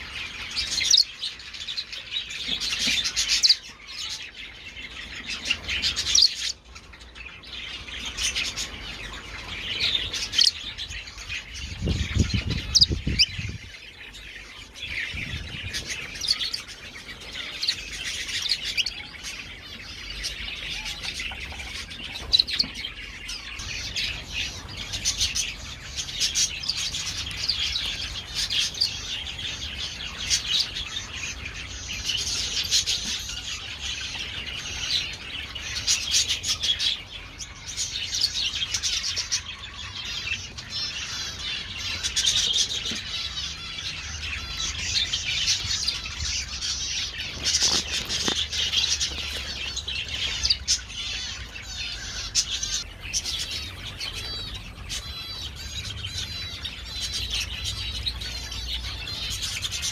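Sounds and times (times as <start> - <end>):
finches and parakeets chirping: 0.0 - 59.9.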